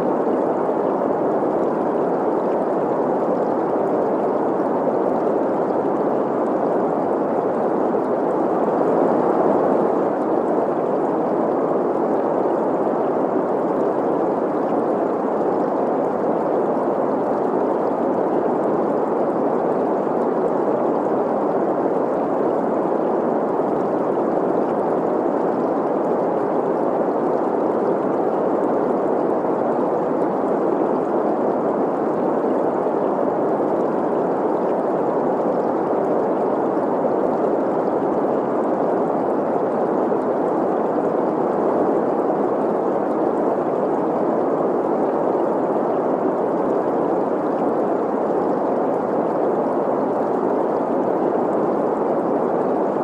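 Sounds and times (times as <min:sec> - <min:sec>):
steady green noise hiss: 0:00.0 - 0:53.0
stream gurgling: 0:00.0 - 0:53.0.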